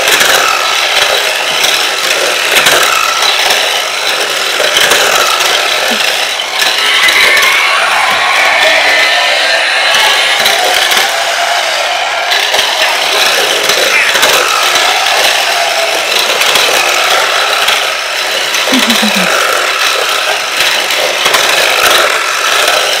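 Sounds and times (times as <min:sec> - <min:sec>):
toy car motor whirring: 0:00.0 - 0:23.0.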